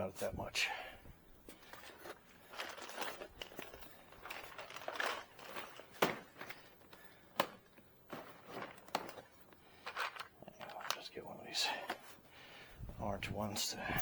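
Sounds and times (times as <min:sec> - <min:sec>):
shuffling and rustling: 0:01.1 - 0:14.0.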